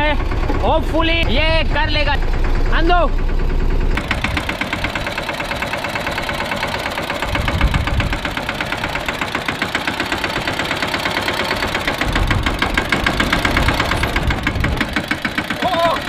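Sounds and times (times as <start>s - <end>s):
tractor diesel engine chugging: 0.0s - 16.0s.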